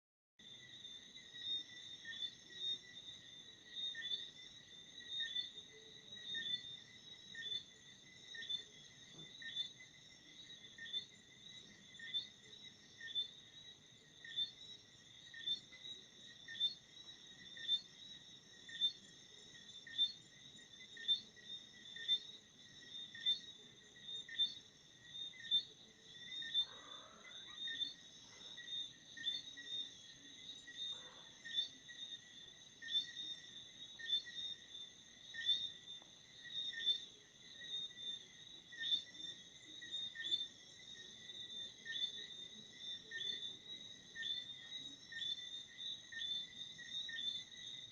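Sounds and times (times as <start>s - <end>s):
crickets chirping: 0.4s - 47.9s
louder pulsing cricket chirp: 0.4s - 47.9s.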